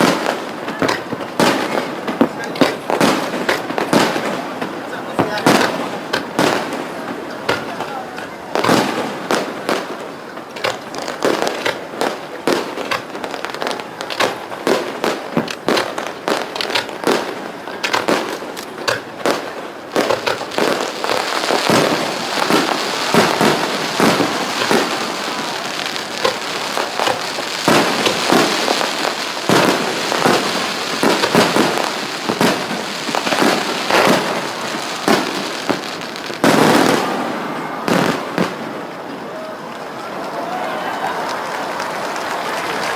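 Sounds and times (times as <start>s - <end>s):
firework shells bursting: 0.0s - 39.2s
fireworks crackling: 0.0s - 42.9s.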